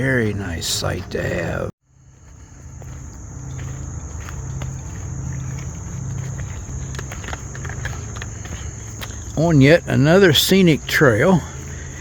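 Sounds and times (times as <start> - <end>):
footsteps on a trail: 0.0 - 12.0
insects chirring: 0.0 - 12.0.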